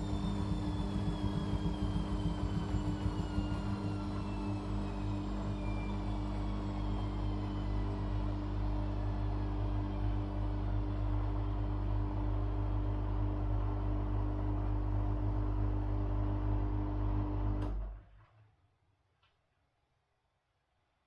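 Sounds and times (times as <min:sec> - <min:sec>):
washing machine humming: 0:00.0 - 0:17.6.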